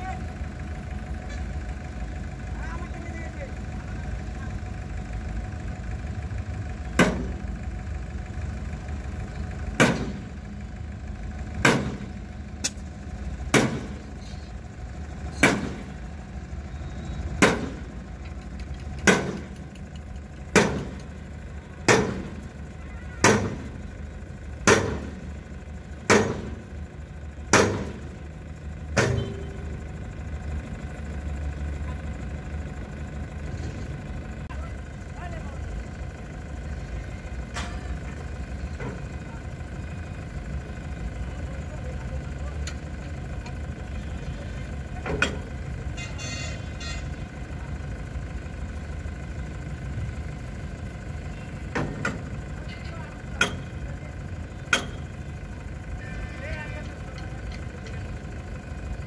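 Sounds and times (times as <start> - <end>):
crane engine running: 0.0 - 59.0.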